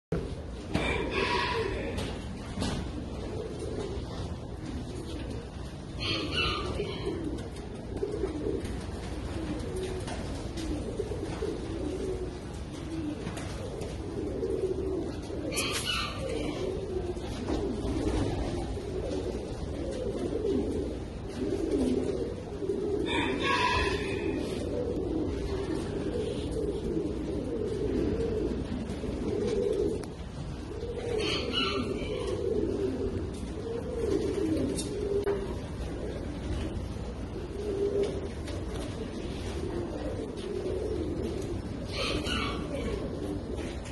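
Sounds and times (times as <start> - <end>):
pigeons cooing: 0.1 - 43.9.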